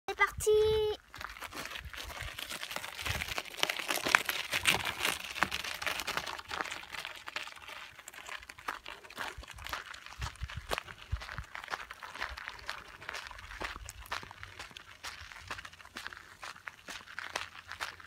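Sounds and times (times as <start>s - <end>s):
footsteps crunching on gravel: 0.5s - 18.0s.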